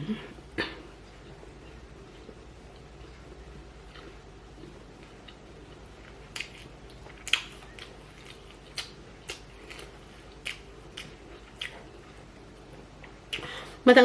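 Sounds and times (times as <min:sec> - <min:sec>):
person chewing and eating: 0:00.0 - 0:13.6.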